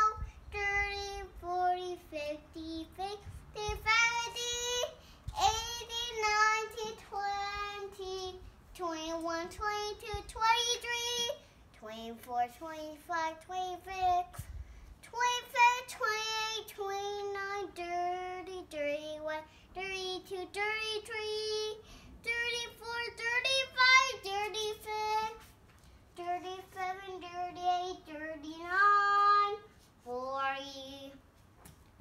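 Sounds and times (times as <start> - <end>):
girl singing: 0.0 - 31.4.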